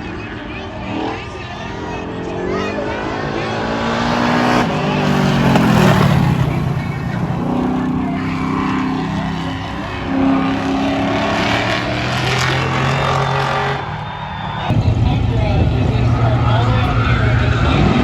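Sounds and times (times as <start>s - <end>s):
car engine running loudly: 0.0s - 18.0s.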